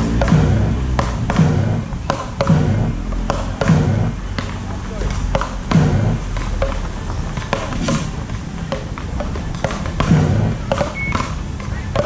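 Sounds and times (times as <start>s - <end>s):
paddles striking ball: 0.0s - 12.0s.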